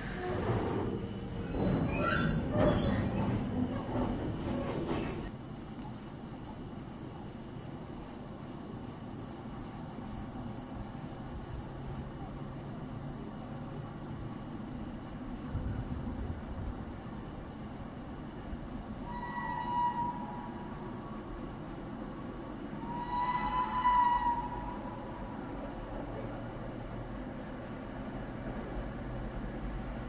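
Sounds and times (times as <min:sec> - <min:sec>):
passing train: 0:00.0 - 0:05.4, 0:09.9 - 0:30.0
crickets chirping: 0:00.0 - 0:30.0.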